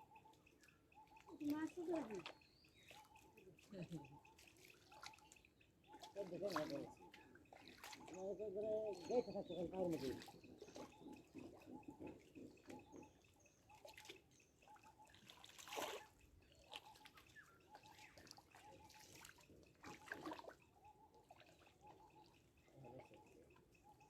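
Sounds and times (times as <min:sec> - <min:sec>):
water trickling and dripping: 0:00.0 - 0:24.0
small water splashes: 0:00.3 - 0:24.0.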